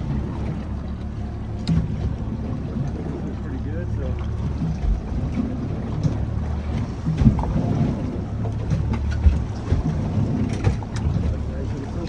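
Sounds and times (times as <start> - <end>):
outboard motor running: 0.0 - 12.0
wind rumbling on microphone: 0.0 - 12.0.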